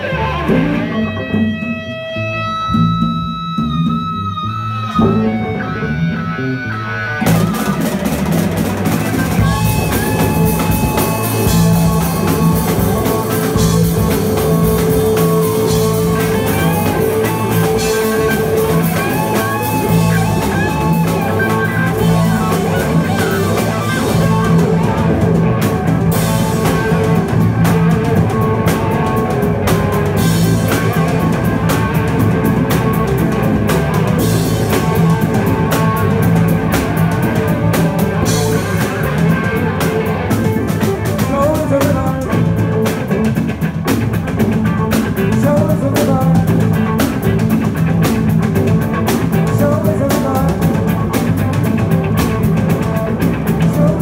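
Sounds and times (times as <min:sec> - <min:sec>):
drum kit beat: 0:00.0 - 0:06.4, 0:07.2 - 0:54.0
electric guitars: 0:00.0 - 0:54.0.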